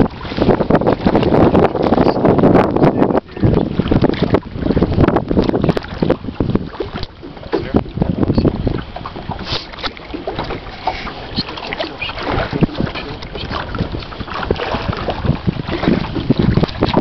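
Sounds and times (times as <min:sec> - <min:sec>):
water splashing around a boat: 0:00.0 - 0:17.0
wind buffeting microphone: 0:00.0 - 0:17.0.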